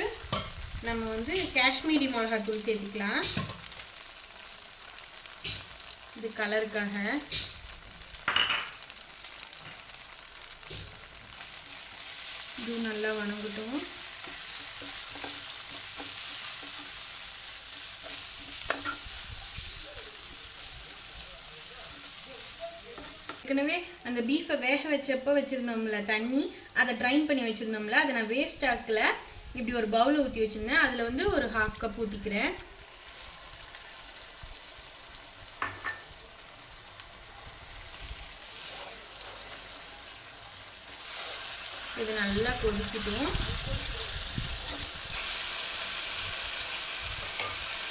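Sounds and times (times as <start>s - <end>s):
masala sizzling in oil: 0.0s - 47.9s.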